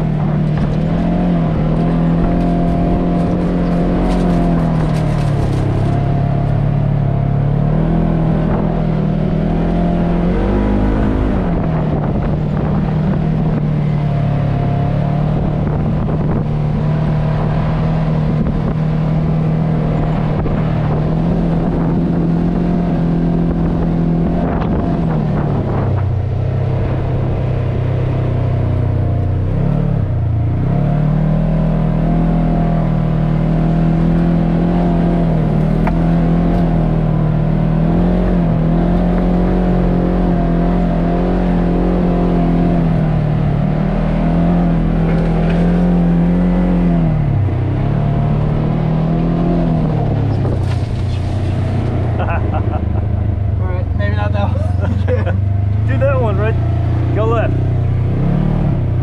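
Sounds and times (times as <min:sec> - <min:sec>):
vehicle engine under throttle: 0:00.0 - 0:59.0.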